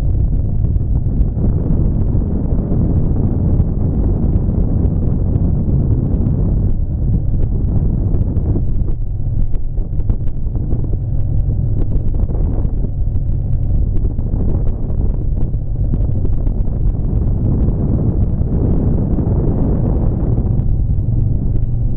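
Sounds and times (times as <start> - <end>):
vehicle engine and road rumble: 0.0 - 21.9
wind buffeting microphone: 0.0 - 21.9.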